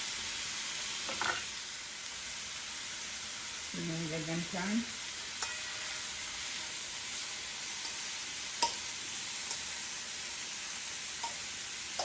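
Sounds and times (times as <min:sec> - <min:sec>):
shrimp sizzling in oil: 0:00.0 - 0:12.0.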